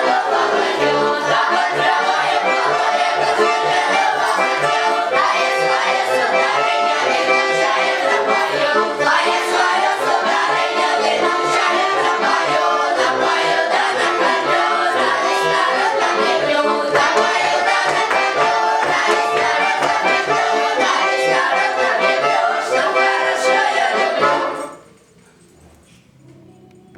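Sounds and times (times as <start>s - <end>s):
children singing folk song: 0.0s - 24.8s
accordion: 0.0s - 24.9s.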